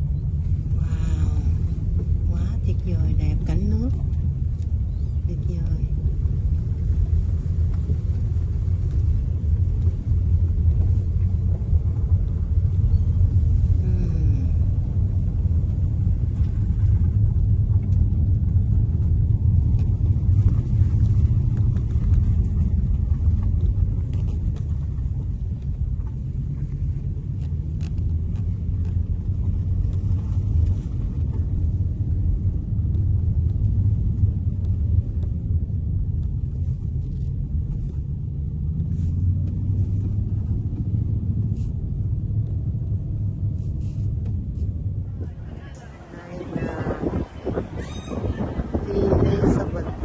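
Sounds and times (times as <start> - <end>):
faint hum: 0.0 - 50.0
steady low engine rumble: 0.0 - 50.0.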